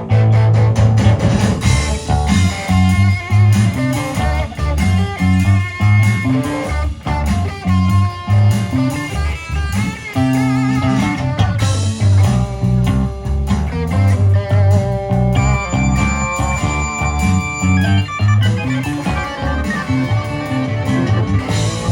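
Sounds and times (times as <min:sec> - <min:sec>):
bass line: 0:00.0 - 0:21.9
drums: 0:00.0 - 0:21.9
electric guitar: 0:00.0 - 0:21.9.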